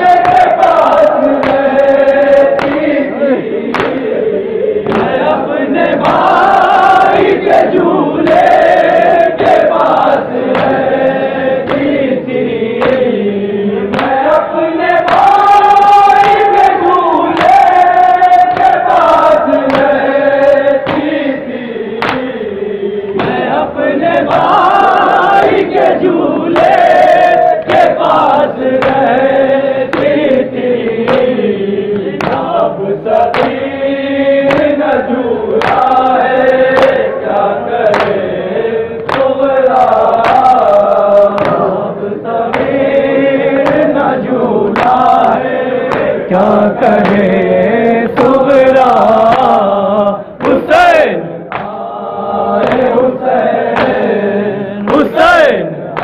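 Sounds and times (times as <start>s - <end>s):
men chanting in unison: 0.0s - 56.0s
rhythmic chest-beating: 0.0s - 56.0s.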